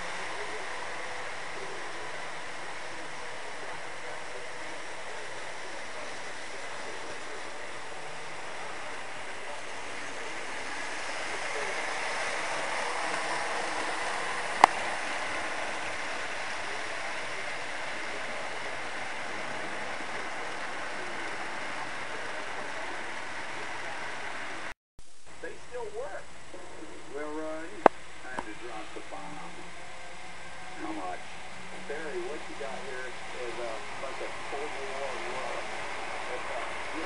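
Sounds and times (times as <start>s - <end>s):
model train rolling hum: 0.0s - 24.7s, 25.4s - 37.0s.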